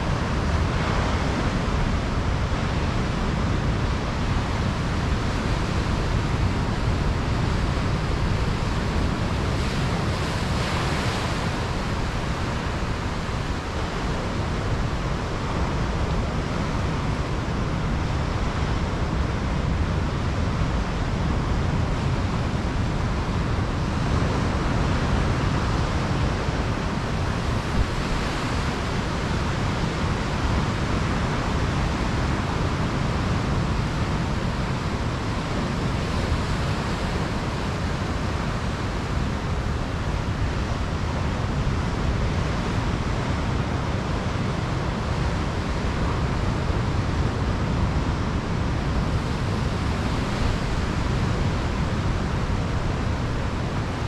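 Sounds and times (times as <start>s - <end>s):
surf washing on a sandy beach: 0.0s - 54.0s.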